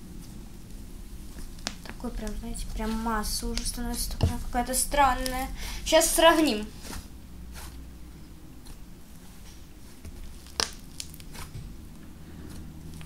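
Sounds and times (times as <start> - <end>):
slime squishing and crackling: 0.0 - 7.9, 8.5 - 13.0.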